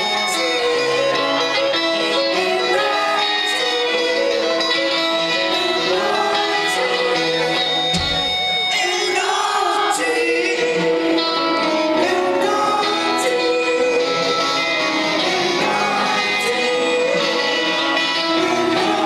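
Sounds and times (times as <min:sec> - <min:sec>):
crowd singing: 0:00.0 - 0:19.0
live rock band playing: 0:00.0 - 0:19.0.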